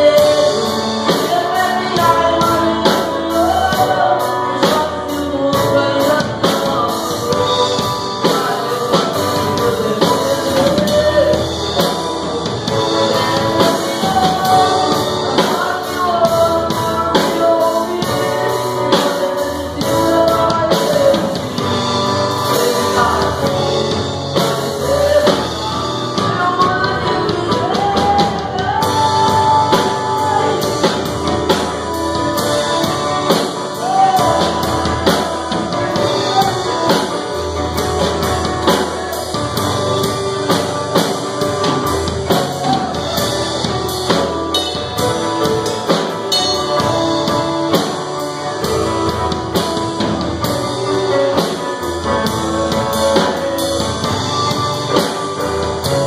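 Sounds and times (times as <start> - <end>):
drum kit beat: 0.0 - 56.0
keyboard: 0.0 - 56.0
man singing into a microphone: 0.0 - 56.0.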